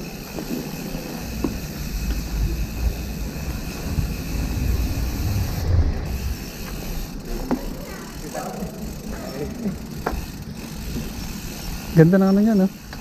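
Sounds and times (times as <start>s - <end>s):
bicycle riding rumble: 0.0s - 13.0s
bike clicks and rattles: 0.0s - 13.0s.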